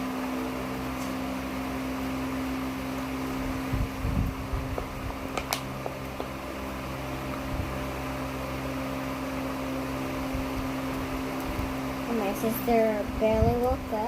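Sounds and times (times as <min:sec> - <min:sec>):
appliance electric hum: 0:00.0 - 0:14.0.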